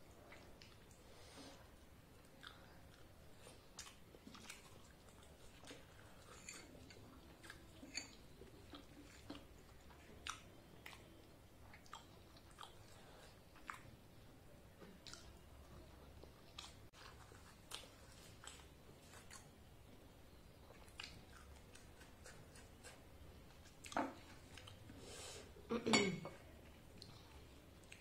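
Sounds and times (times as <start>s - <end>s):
chewing with soft crunches: 0.0s - 25.1s, 26.4s - 28.0s.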